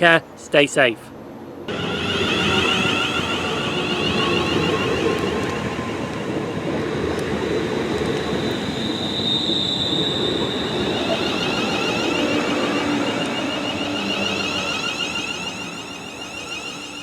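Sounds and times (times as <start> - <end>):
train rumbling on rails: 1.1 - 17.0
high wheel squeal: 1.7 - 17.0.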